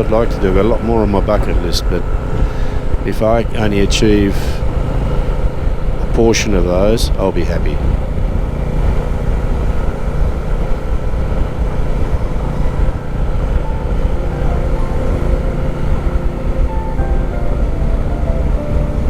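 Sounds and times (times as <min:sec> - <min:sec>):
heavy low rumble: 0:00.0 - 0:19.0
motorcycle engine running: 0:00.0 - 0:19.0.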